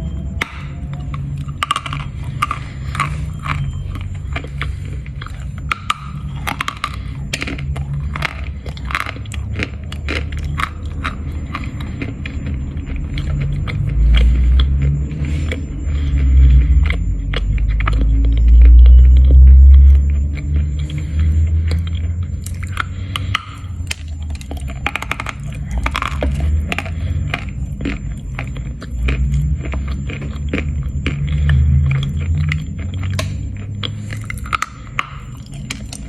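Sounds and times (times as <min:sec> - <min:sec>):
chalk crunching while chewed: 0:00.0 - 0:36.0
low rumble: 0:00.0 - 0:36.0.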